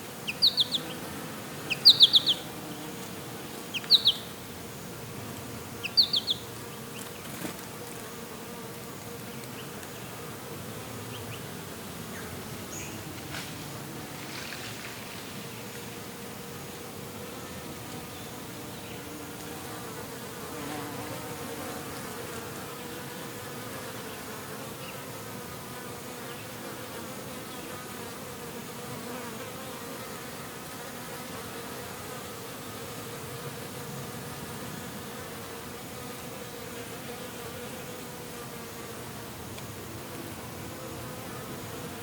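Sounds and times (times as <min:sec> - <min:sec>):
bees buzzing: 0:00.0 - 0:42.0.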